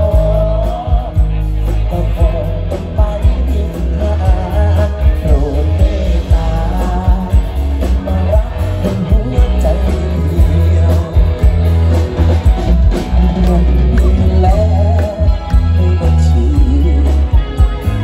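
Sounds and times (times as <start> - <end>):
heavy bass line: 0.0 - 18.0
man singing into a microphone: 0.0 - 18.0
steady drum beat: 0.0 - 18.0.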